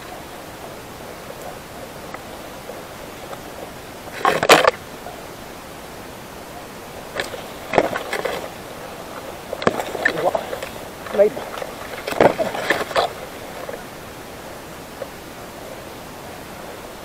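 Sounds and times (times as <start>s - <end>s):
leaves and twigs rustling: 0.0s - 16.9s
steady hiss: 0.0s - 17.0s.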